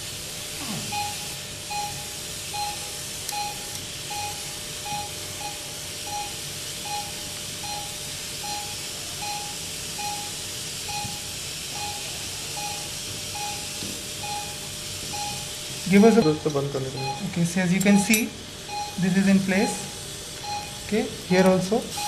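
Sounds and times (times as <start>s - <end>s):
patient monitor beeping: 0.7s - 21.0s.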